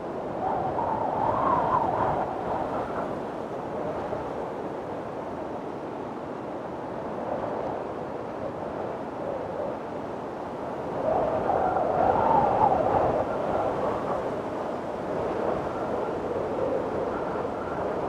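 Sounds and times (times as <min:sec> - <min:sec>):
strong wind blowing: 0:00.0 - 0:18.0.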